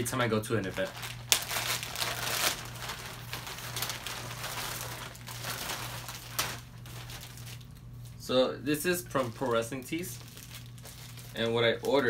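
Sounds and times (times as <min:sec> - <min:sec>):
plastic bag crinkling: 0:00.2 - 0:08.2, 0:09.0 - 0:12.0.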